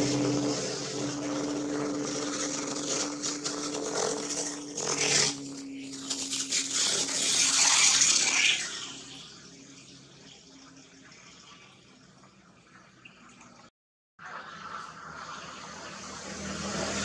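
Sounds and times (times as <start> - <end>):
low hum: 0.0 - 12.7, 14.4 - 17.0.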